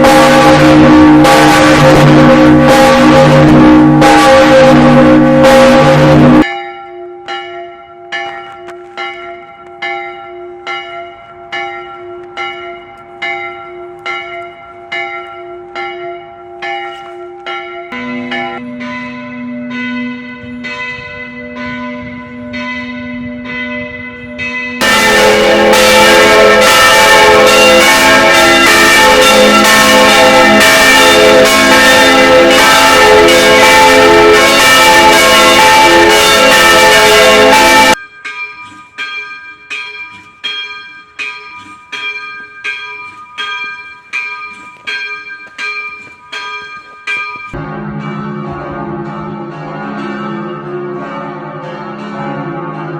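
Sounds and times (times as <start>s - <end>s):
church bells ringing: 0.0s - 52.9s.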